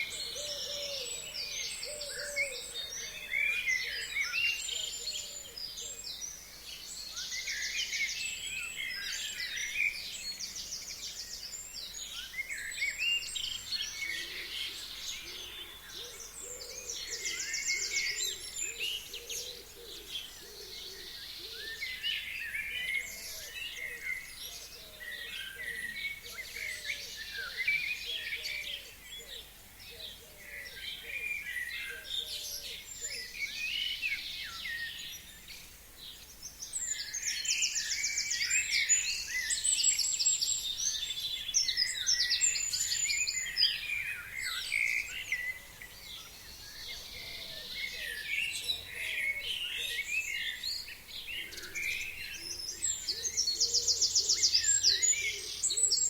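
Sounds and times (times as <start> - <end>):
songbirds chirping and whistling: 0.0 - 56.0.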